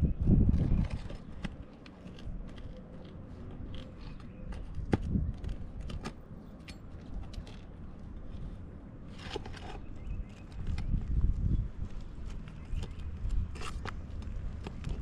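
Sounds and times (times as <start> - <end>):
small clicks and scrapes: 0.3 - 11.2, 11.8 - 15.0.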